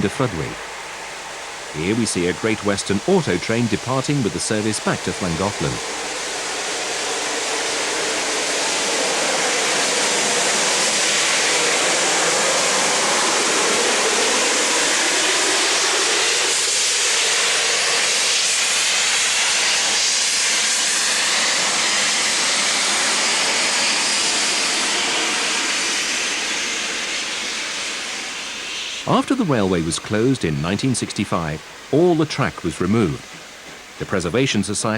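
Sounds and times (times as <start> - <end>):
steam train rushing hiss: 0.0 - 34.9.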